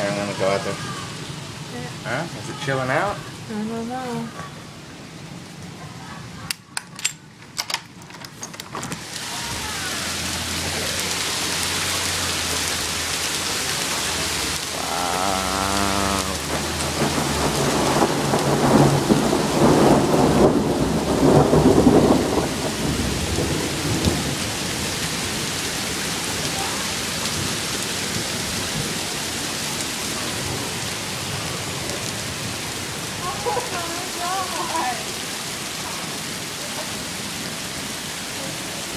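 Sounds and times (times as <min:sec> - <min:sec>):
hail and rain pelting: 0:06.9 - 0:38.9.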